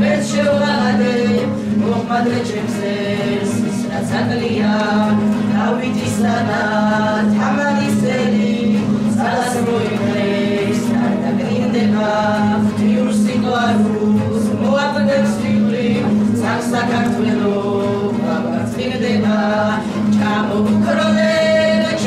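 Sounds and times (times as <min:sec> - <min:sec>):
acoustic guitar: 0:00.0 - 0:22.0
group of voices singing: 0:00.0 - 0:22.0.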